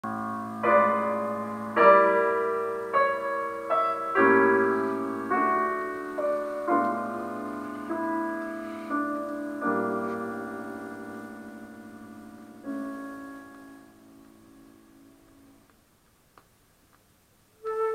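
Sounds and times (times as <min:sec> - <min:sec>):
piano chords ringing: 0:00.0 - 0:15.7, 0:17.6 - 0:17.9.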